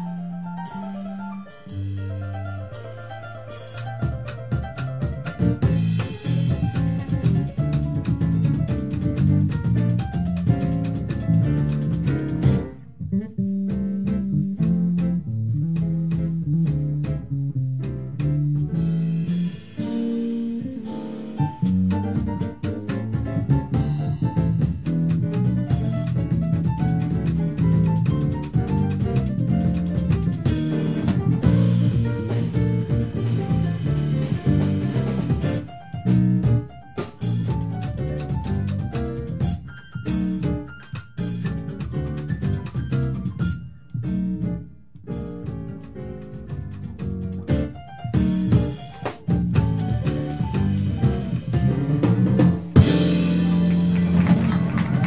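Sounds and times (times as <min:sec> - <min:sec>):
drum kit: 0:00.0 - 0:55.0
electric bass: 0:00.0 - 0:55.0
piano: 0:00.0 - 0:55.0
small band playing ensemble hits: 0:00.0 - 0:55.0.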